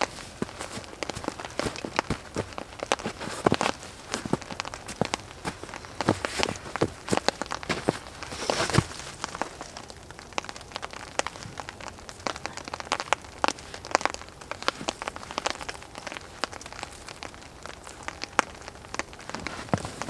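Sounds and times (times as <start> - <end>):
raindrops ticking: 0.0 - 20.0.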